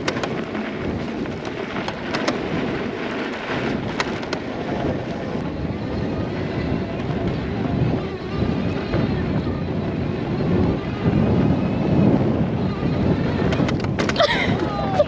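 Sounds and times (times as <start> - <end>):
tyres on dirt: 0.0 - 15.0
wind buffeting microphone: 0.0 - 15.0.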